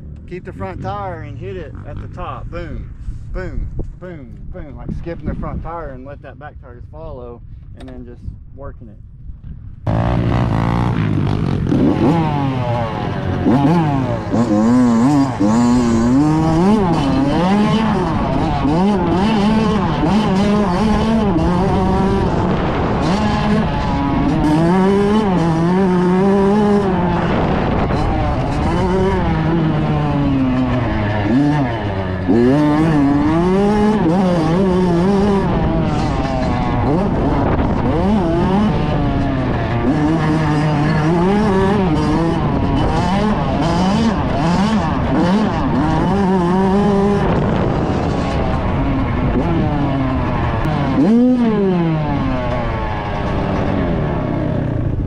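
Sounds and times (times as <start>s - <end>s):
dirt bike engine running hard: 0.0s - 6.6s, 9.0s - 55.0s.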